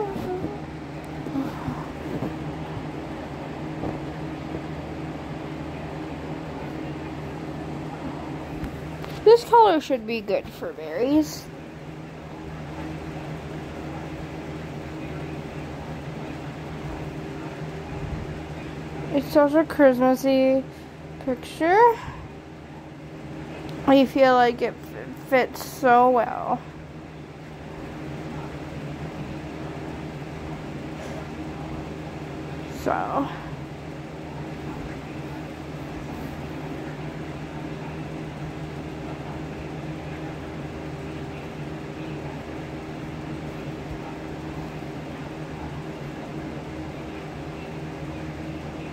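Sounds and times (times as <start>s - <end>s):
electric fan humming: 0.0s - 48.9s.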